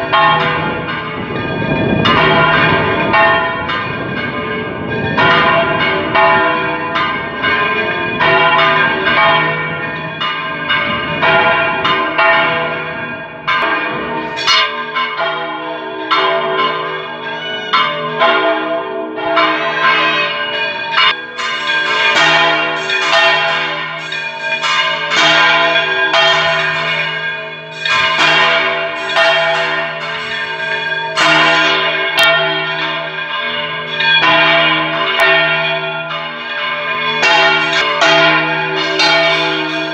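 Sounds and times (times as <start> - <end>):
church bells clanging: 0.0 - 39.9.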